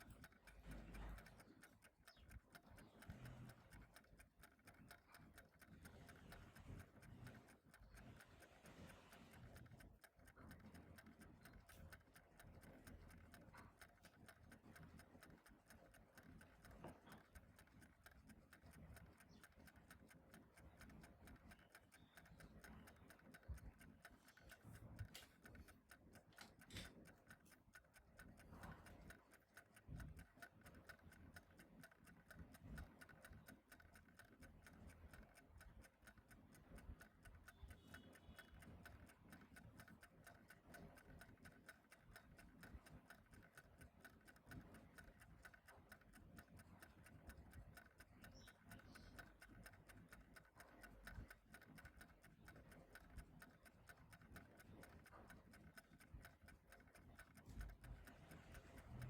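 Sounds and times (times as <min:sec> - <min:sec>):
clock ticking faintly: 0:00.0 - 0:59.0.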